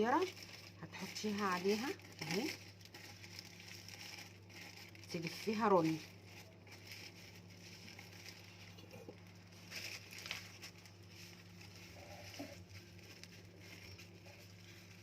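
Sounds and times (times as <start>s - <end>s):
plastic bags crinkling: 0.0s - 15.0s
steady low hum: 0.0s - 15.0s.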